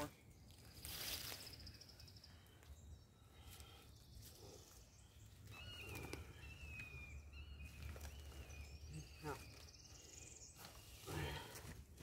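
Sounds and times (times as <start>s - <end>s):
faint outdoor ambience: 0.0s - 12.0s.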